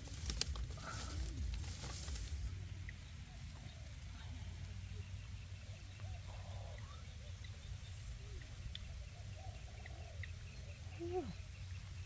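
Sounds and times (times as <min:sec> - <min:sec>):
faint bird calls and chirps: 0:00.8 - 0:12.0.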